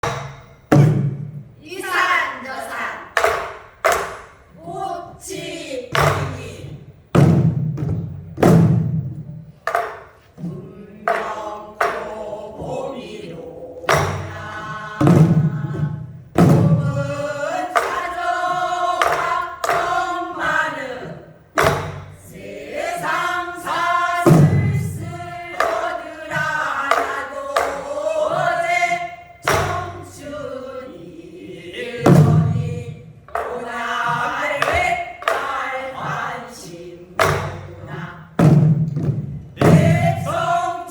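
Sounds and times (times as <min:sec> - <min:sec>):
group singing in unison: 0:01.8 - 0:08.0, 0:09.7 - 0:40.9
barrel drum strokes: 0:05.9 - 0:30.7, 0:31.7 - 0:40.9.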